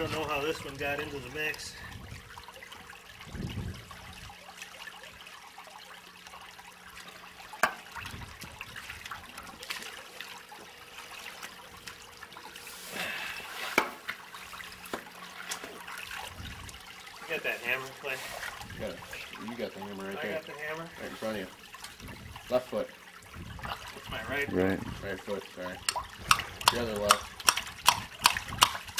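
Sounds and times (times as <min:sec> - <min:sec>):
creek water trickling and splashing: 0:00.0 - 0:28.9.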